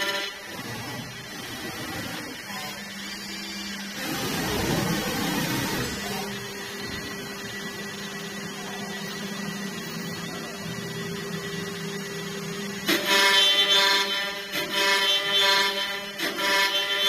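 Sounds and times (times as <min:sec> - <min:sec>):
high machine whine: 0:00.0 - 0:17.0
wood milling machine hum: 0:00.0 - 0:17.0.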